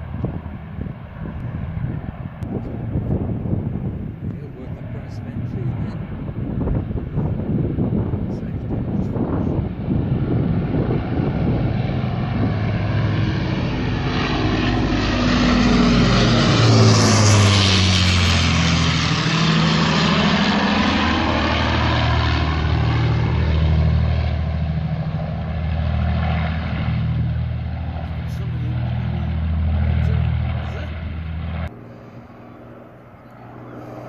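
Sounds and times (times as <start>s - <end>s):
piston aircraft engines flying overhead: 0.0s - 34.0s.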